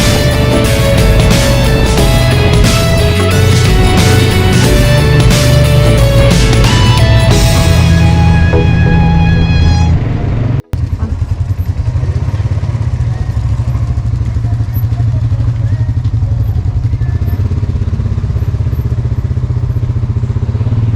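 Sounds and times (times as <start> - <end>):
atv engine puttering: 0.0 - 20.9.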